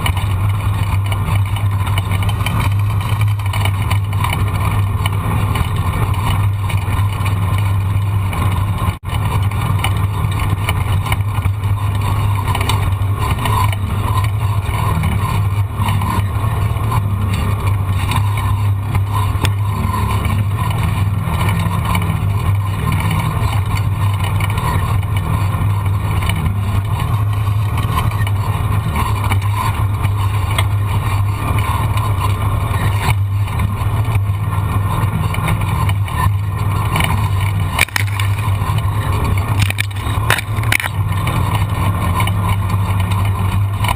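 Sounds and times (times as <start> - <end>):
vehicle engine droning: 0.0 - 43.9.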